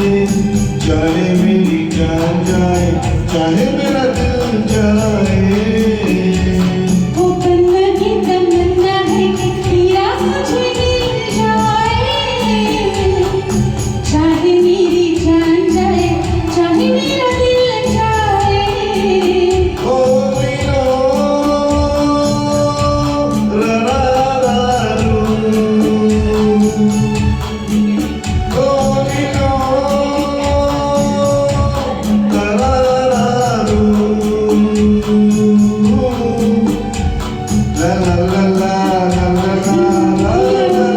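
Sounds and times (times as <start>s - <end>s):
steady rhythmic backing beat: 0.0s - 40.9s.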